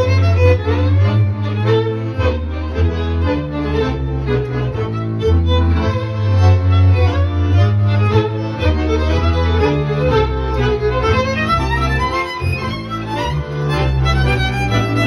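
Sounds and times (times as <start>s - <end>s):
bowed double bass: 0.0s - 15.0s
piano accordion: 0.0s - 15.0s
violin melody: 0.0s - 15.0s.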